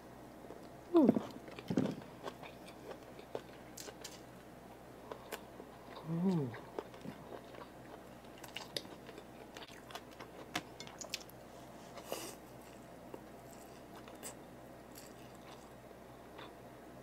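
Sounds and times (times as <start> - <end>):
soft wet chewing: 0.5 - 4.2, 5.0 - 15.8.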